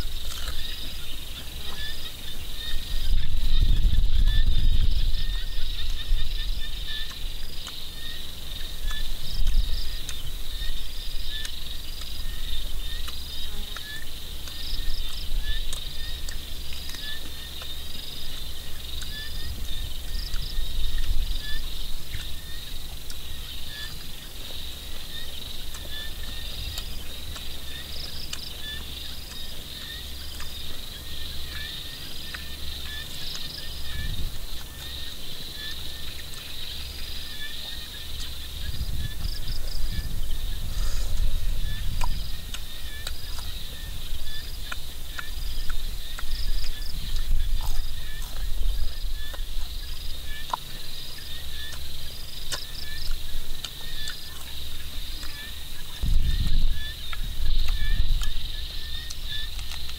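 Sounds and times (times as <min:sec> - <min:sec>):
insects chirping: 0:00.0 - 0:59.9
wind rumbling on microphone: 0:00.0 - 0:59.9.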